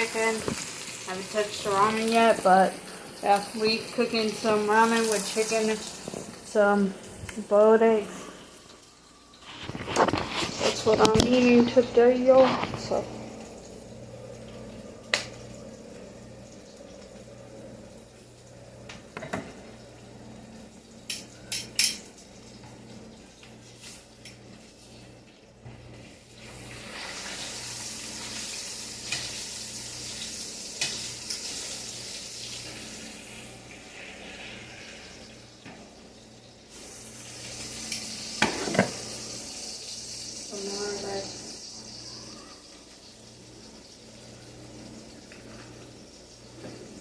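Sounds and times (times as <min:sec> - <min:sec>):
chicken sizzling in a pan: 0:00.0 - 0:47.0.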